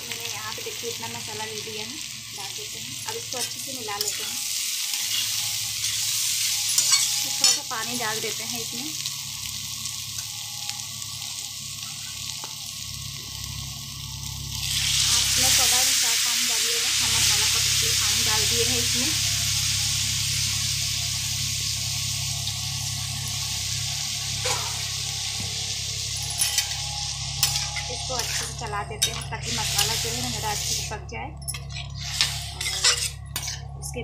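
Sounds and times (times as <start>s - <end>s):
potatoes sizzling in hot oil: 0.0s - 31.1s, 31.8s - 33.6s.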